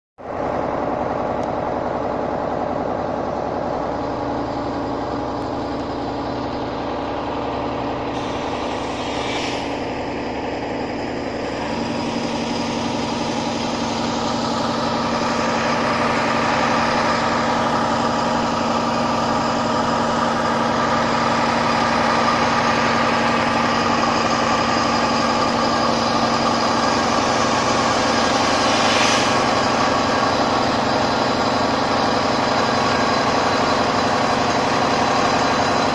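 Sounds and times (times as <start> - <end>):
diesel engine idling: 0.2 - 35.9.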